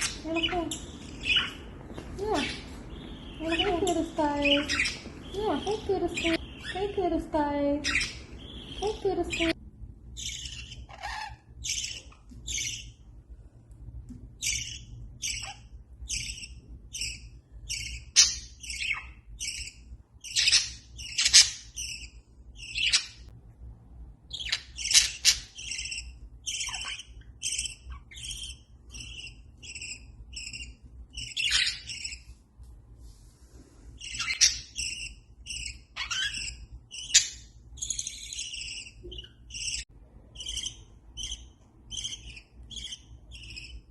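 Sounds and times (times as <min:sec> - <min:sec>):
budgerigars chirping: 0:00.0 - 0:13.0, 0:14.4 - 0:23.3, 0:24.3 - 0:32.2, 0:34.0 - 0:43.9.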